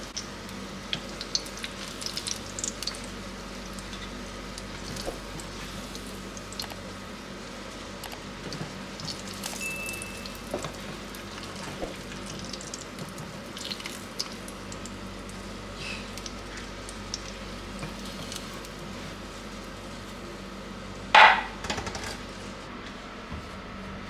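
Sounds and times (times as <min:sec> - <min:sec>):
oil sizzling in a frying pan: 0:00.0 - 0:20.5.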